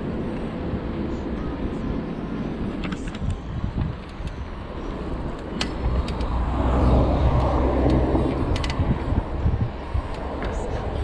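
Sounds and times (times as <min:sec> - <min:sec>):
bicycle rumble on road: 0:00.0 - 0:11.0.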